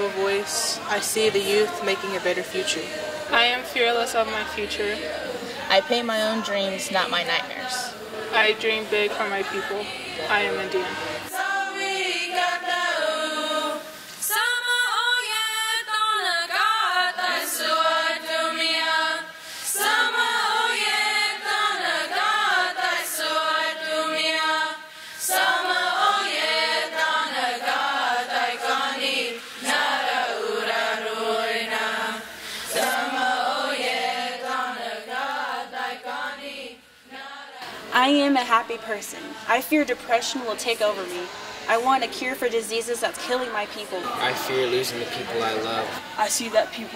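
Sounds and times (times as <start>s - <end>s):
youth choir singing a cappella: 0.0s - 46.9s.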